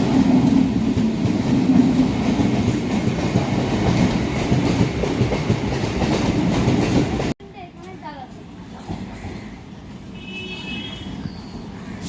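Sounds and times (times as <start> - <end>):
electric train rumbling on rails: 0.0 - 12.0.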